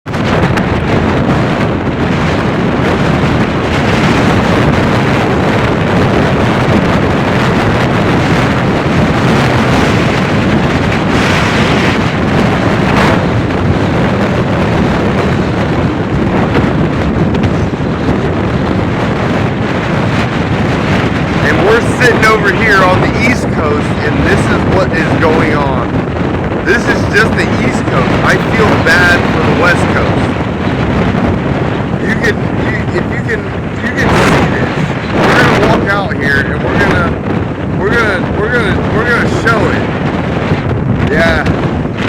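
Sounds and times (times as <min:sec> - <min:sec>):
strong wind buffeting microphone: 0:00.0 - 0:42.0.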